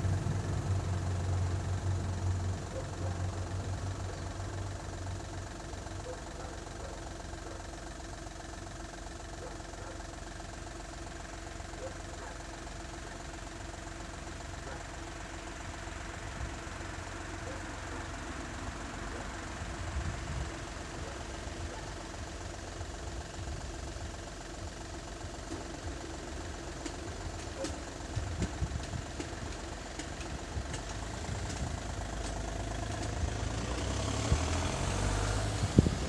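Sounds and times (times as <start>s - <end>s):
engine-like hum with low rumble: 0.0s - 36.0s.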